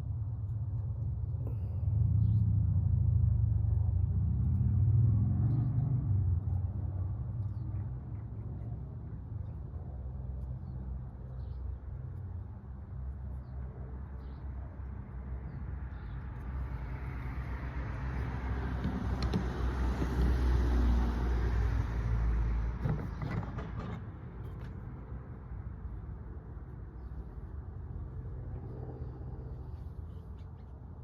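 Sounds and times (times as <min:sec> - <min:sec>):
vehicle passing: 0:01.9 - 0:10.5, 0:13.8 - 0:31.0.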